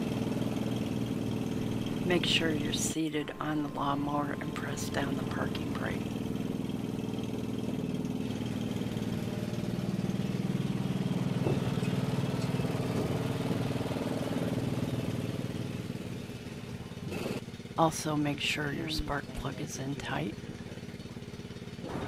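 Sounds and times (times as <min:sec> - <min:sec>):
riding mower engine running: 0:00.0 - 0:22.0.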